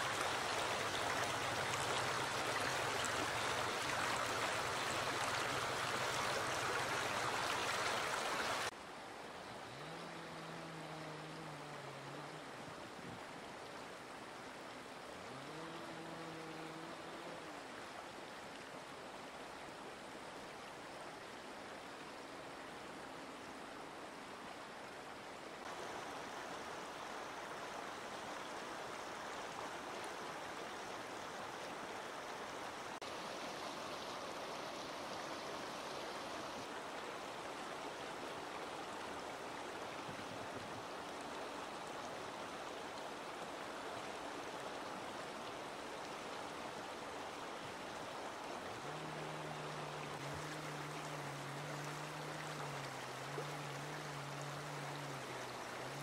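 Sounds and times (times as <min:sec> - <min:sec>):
river rushing over stones: 0:00.0 - 0:56.0.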